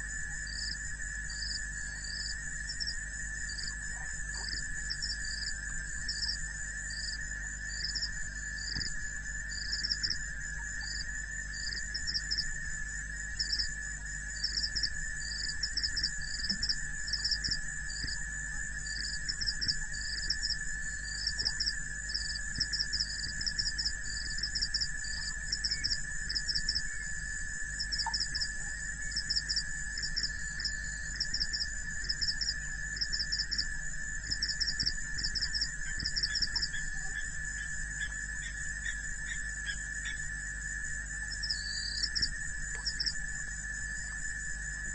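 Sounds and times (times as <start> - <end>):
crickets chirping: 0.0 - 44.9
high insect drone: 0.0 - 44.9
low steady hum: 0.0 - 44.9.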